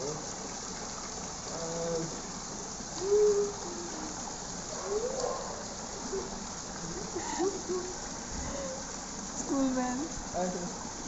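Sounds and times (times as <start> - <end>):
fountain splashing into pool: 0.0 - 11.0.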